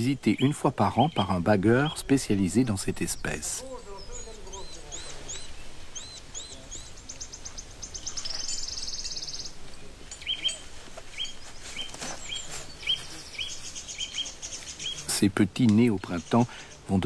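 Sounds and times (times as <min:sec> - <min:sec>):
bird chirping: 0:00.0 - 0:17.0
bird trill: 0:00.0 - 0:17.0
songbirds singing: 0:00.0 - 0:17.0.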